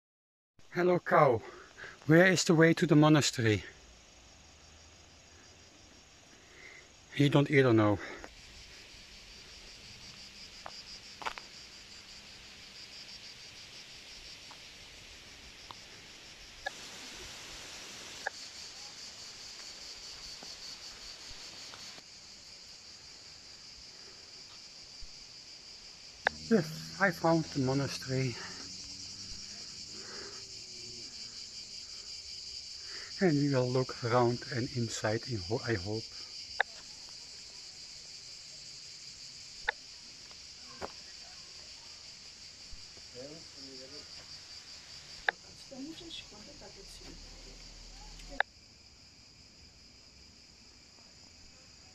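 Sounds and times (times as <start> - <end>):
insect chorus chirring: 0.6 - 51.9.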